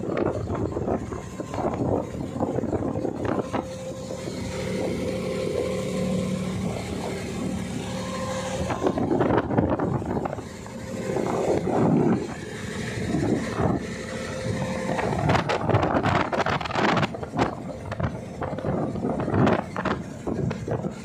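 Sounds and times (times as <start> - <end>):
boat engine running: 0.0 - 21.0
water rushing along hull: 0.0 - 21.0
wind buffeting microphone: 0.0 - 21.0.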